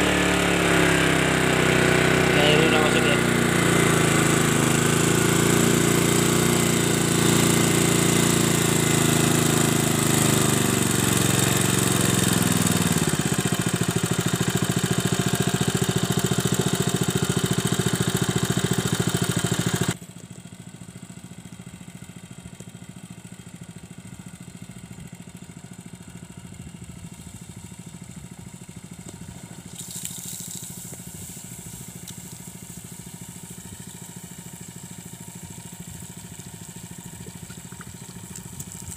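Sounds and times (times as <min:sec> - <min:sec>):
petrol water pump engine running: 0:00.0 - 0:38.9.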